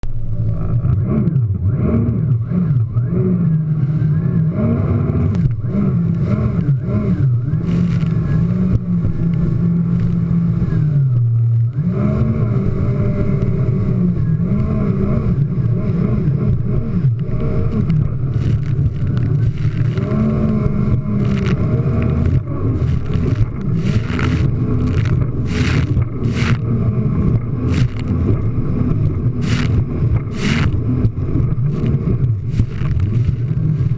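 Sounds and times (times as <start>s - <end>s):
jet ski engine running: 0.0s - 33.9s
rushes of noise over waves: 3.7s - 33.9s.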